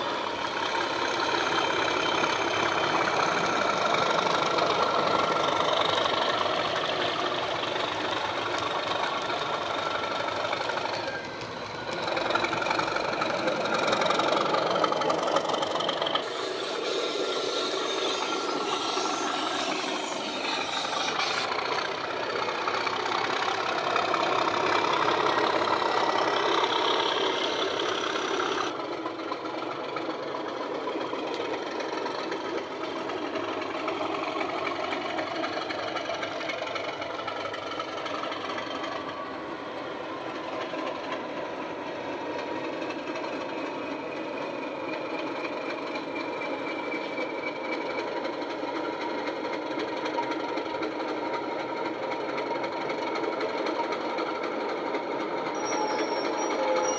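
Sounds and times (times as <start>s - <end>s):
diesel engine sound through small speakers: 0.0s - 56.9s.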